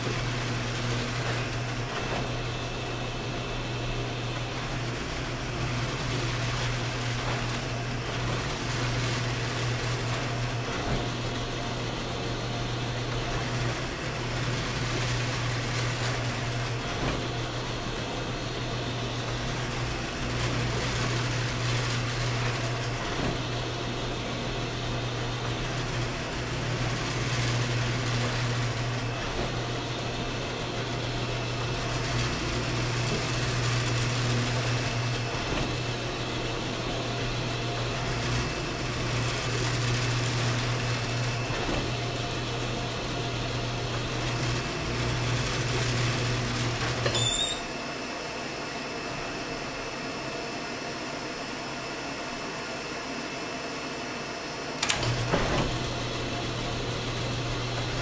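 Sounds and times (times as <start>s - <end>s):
machine motor humming: 0.0s - 58.0s.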